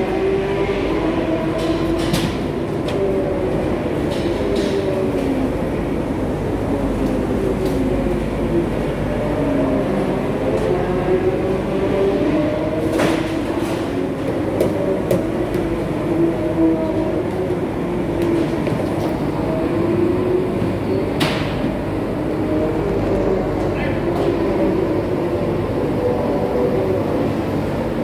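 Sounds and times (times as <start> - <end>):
kitchen ventilation roar: 0.0 - 28.0.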